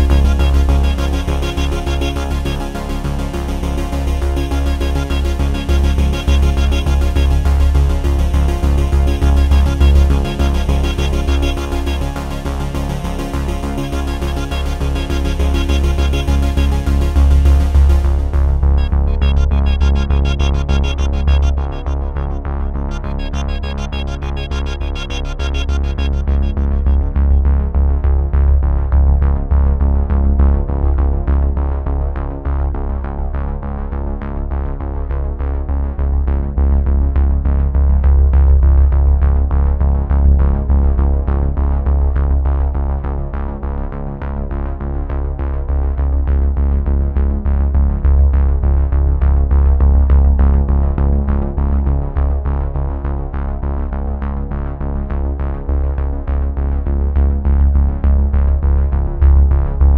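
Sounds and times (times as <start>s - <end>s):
synthesizer music with deep bass: 0.0s - 59.9s.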